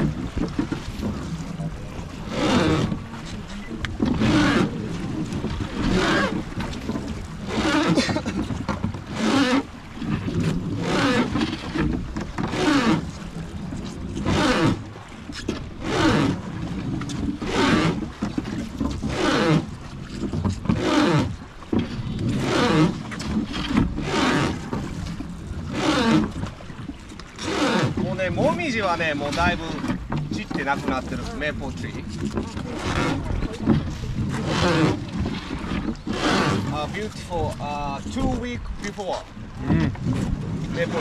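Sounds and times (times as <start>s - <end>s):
oars rowing with strained creak: 0.0s - 41.0s.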